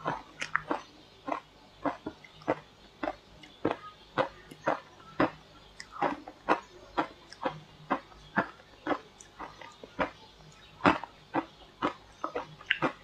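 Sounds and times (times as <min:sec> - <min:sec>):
shaved ice being chewed: 0:00.0 - 0:13.0.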